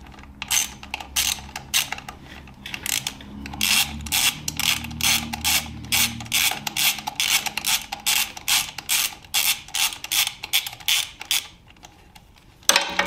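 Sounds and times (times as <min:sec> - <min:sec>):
ratchet wrench clicking: 0:00.4 - 0:11.5.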